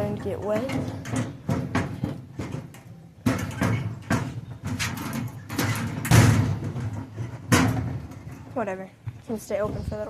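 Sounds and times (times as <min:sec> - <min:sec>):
oven door knocking and clattering: 0:00.0 - 0:08.4.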